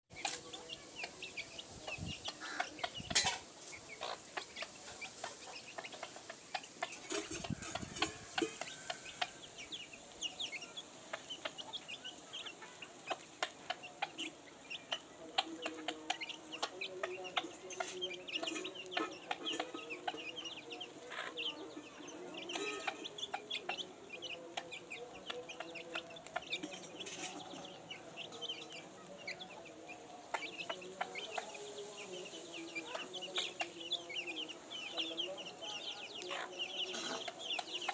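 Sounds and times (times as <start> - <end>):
chickens clucking: 0.1 - 37.9
chicks peeping: 0.1 - 37.9.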